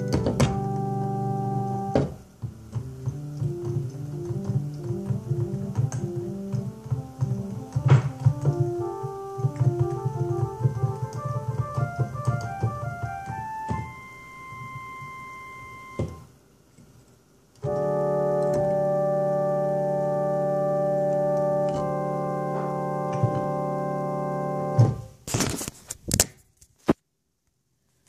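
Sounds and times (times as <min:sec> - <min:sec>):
electronic keyboard organ music: 0:00.0 - 0:16.4, 0:17.6 - 0:25.2.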